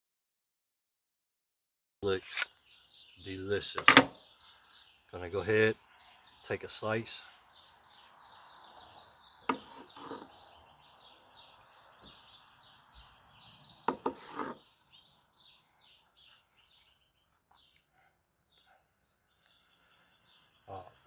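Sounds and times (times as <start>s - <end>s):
small bird chirping: 2.0s - 21.0s.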